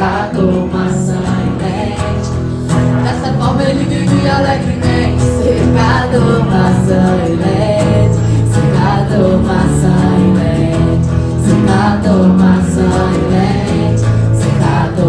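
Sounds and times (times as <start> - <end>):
acoustic guitar song: 0.0 - 15.0
bass notes: 0.0 - 15.0
person singing: 0.0 - 15.0.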